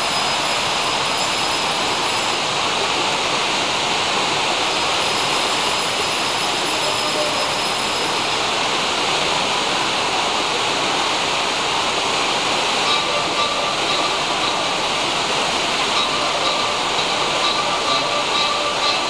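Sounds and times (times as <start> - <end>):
falling water rushing: 0.0 - 19.0.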